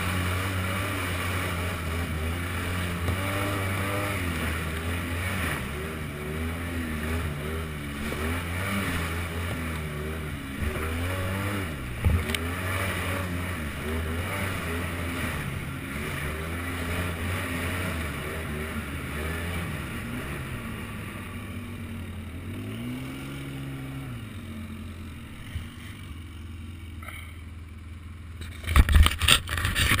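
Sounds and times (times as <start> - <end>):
atv engine revving: 0.0 - 30.0.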